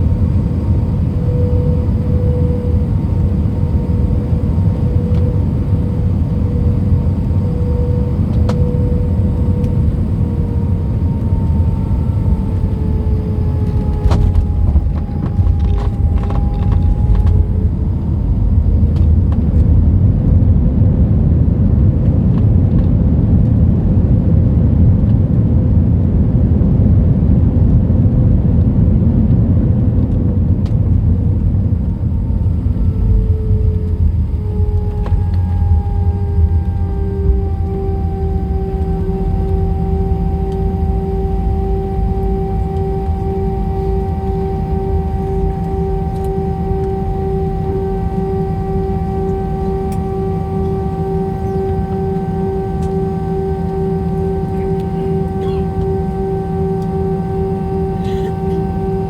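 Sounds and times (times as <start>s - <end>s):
engine tone: 0.0s - 59.0s
jet engine cabin rumble: 0.0s - 59.0s.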